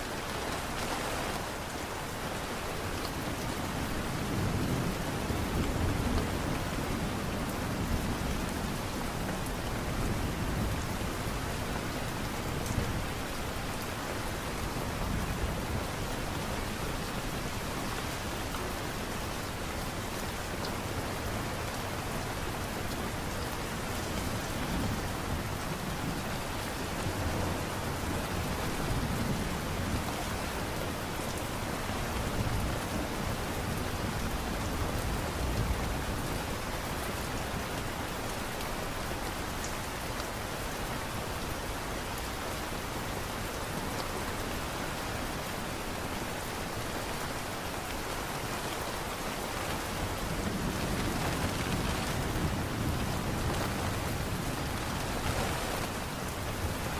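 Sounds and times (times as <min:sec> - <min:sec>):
light rain falling: 0:00.0 - 0:56.9.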